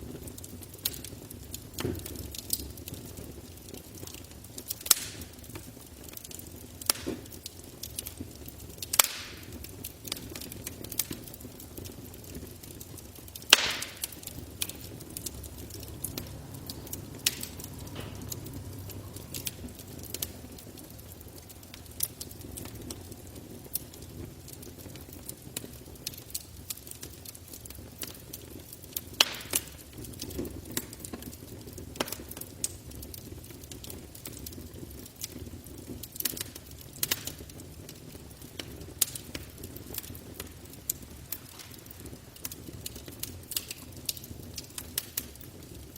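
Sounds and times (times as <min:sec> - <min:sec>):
campfire crackling and popping: 0:00.0 - 0:45.9
low rush of burning wood: 0:00.0 - 0:45.9.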